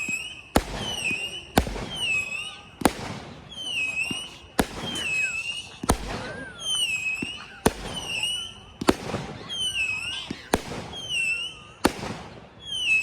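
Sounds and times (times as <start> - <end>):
firework bangs: 0.0 - 13.0
firework whistling: 0.0 - 13.0.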